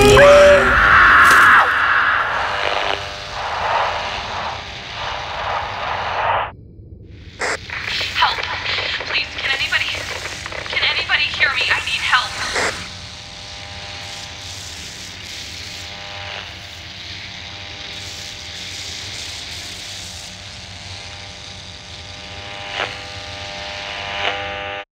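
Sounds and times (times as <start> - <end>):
dark ambient drone: 0.0 - 24.8.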